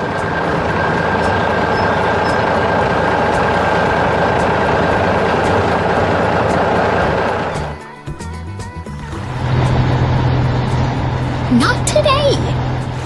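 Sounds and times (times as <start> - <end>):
heavy truck engine running: 0.0 - 13.0.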